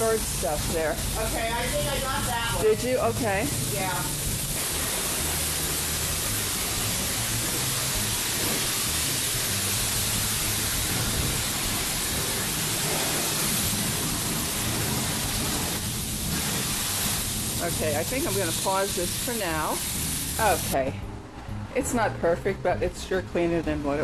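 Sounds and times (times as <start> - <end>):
pressure washer spraying water: 0.0 - 20.8.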